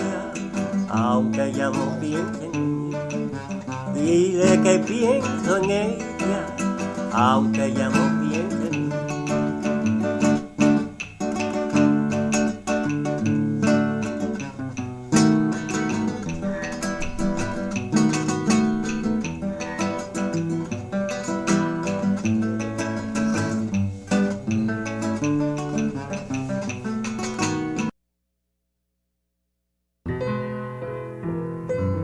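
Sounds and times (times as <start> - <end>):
acoustic guitar plucked and strummed: 0.0 - 27.9.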